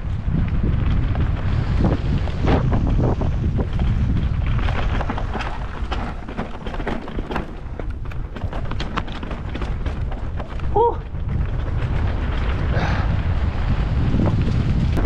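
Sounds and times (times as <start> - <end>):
bike rattling over stones: 0.0 - 15.0
wind buffeting microphone: 0.0 - 15.0.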